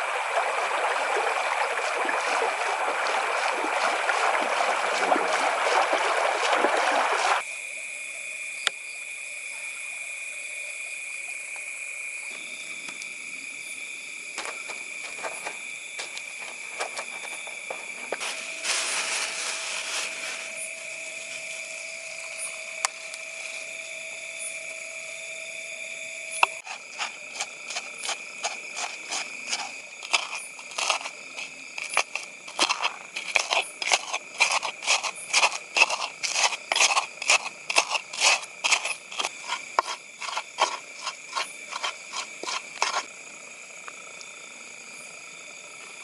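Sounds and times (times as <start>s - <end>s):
night insects droning: 0.0s - 46.0s.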